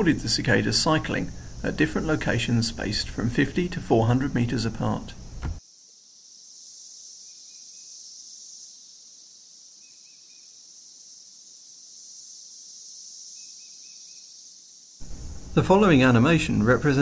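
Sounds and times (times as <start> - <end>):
cicada chorus hiss: 0.0 - 17.0.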